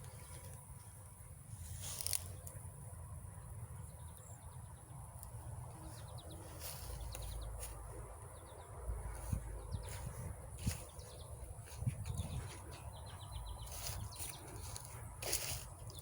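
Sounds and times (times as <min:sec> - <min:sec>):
faint bird chirping: 0:01.8 - 0:16.0.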